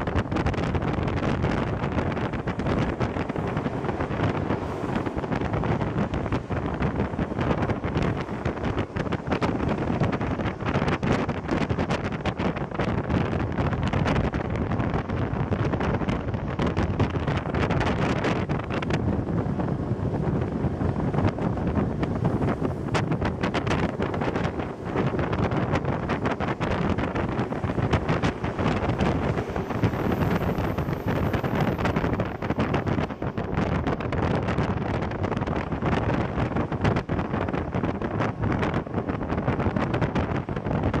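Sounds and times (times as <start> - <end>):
moving train rumble: 0.0 - 41.0
wind on microphone: 0.0 - 41.0.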